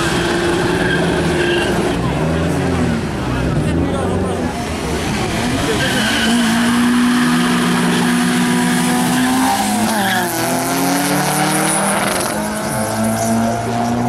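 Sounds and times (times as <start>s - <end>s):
race car engines revving high: 0.0s - 14.0s.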